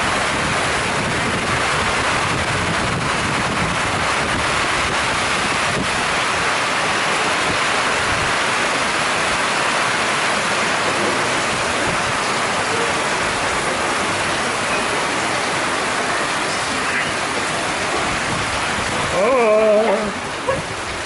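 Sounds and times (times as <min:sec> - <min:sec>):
heavy rain on puddles: 0:00.0 - 0:21.0.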